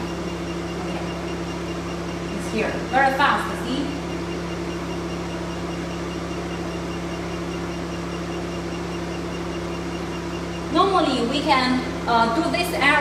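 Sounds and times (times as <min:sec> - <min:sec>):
laser machine humming: 0:00.0 - 0:13.0.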